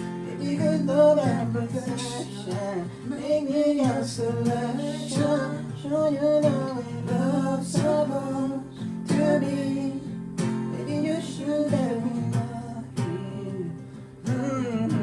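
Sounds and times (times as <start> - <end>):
acoustic guitar strumming: 0.0 - 15.0
person singing: 0.1 - 15.0.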